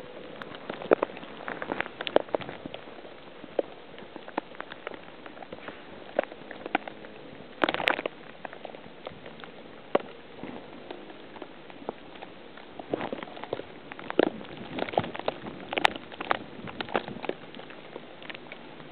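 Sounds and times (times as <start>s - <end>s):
faint steady hiss: 0.0s - 18.9s.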